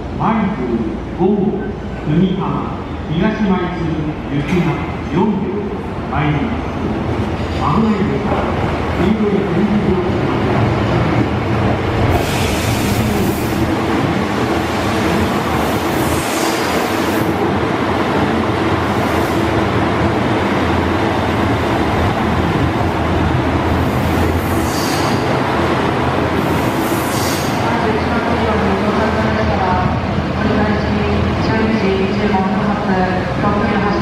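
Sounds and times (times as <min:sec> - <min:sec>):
diesel train engine and wheel rumble: 0:00.0 - 0:34.0.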